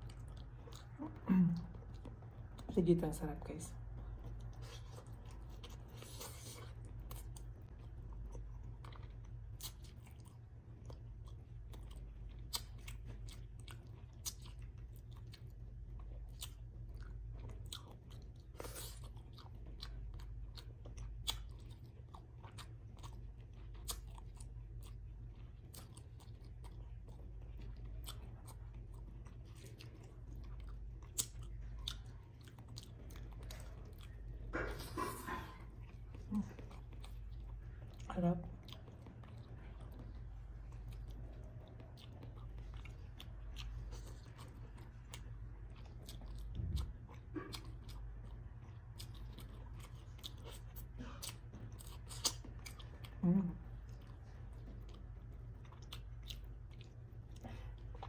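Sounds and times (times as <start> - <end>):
chewing and mouth smacks: 0.0 - 58.0
steady low hum: 0.0 - 58.0.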